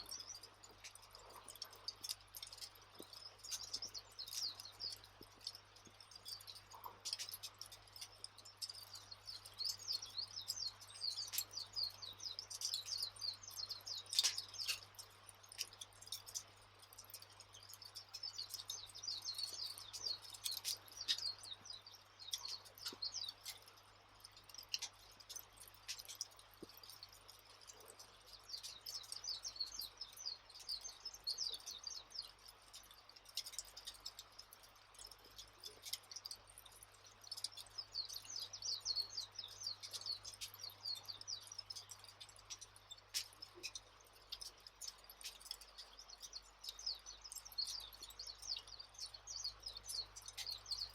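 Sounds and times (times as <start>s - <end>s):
campfire crackling and popping: 0.0s - 50.9s
small birds chirping: 0.0s - 50.9s.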